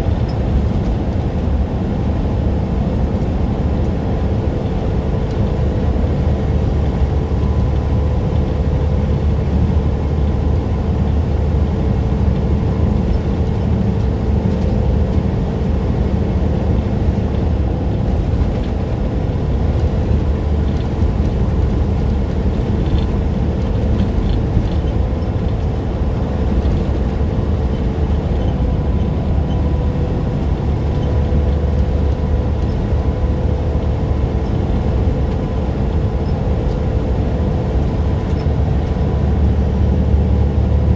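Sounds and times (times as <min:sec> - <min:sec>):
truck diesel engine and road noise: 0:00.0 - 0:40.9.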